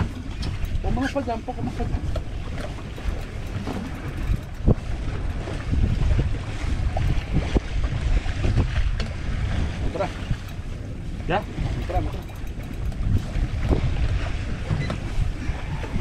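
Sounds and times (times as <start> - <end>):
water washing against boat: 0.0 - 16.0
wind rumbling on microphone: 0.0 - 16.0.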